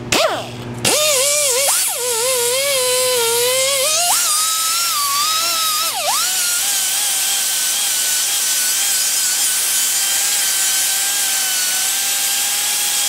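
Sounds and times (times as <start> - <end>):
grinder whining against steel: 0.1 - 13.0.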